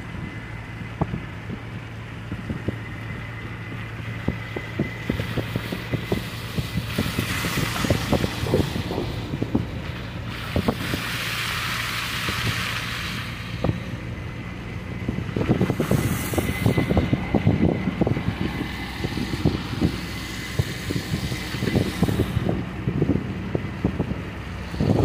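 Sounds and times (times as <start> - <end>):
distant tram rumbling: 0.0 - 25.0
wind buffeting microphone: 0.0 - 25.0.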